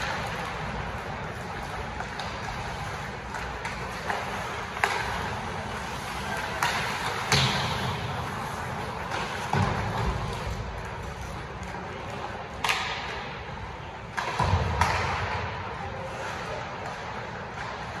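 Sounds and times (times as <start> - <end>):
hockey sticks and puck knocking: 0.0 - 15.6
skates and arena noise: 0.0 - 18.0.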